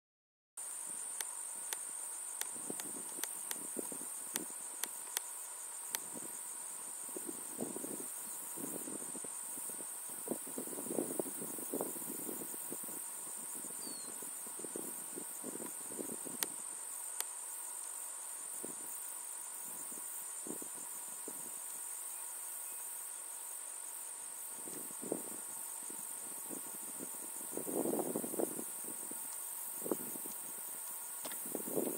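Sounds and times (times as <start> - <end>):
insects chirring: 0.6 - 31.9.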